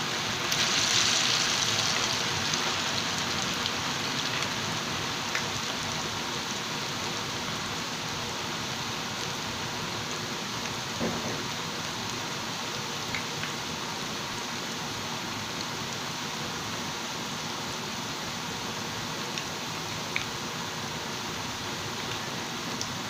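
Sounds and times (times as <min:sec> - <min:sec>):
deep-frying sizzle: 0:00.0 - 0:23.0.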